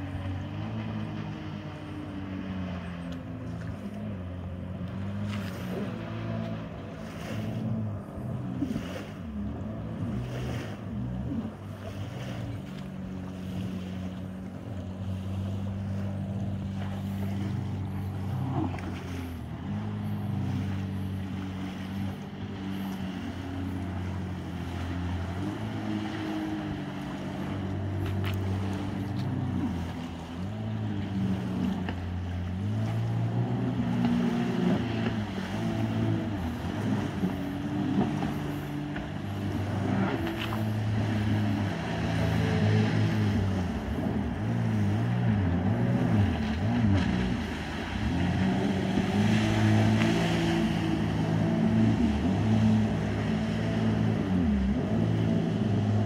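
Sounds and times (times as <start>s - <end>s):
jet ski engines racing: 0.0s - 56.0s.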